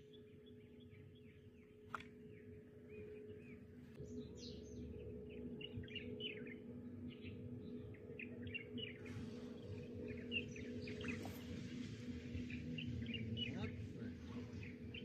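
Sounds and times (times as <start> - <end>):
faint low hum: 0.0 - 15.0
small birds chirping: 0.0 - 15.0.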